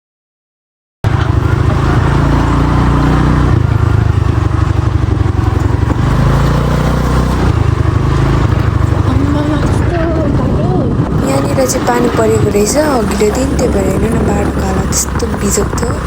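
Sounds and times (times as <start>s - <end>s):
motor scooter engine running: 1.1s - 16.0s.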